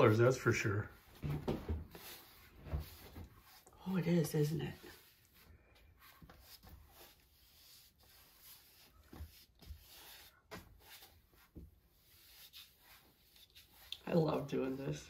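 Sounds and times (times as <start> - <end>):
paintbrush strokes on canvas: 0.0 - 15.0.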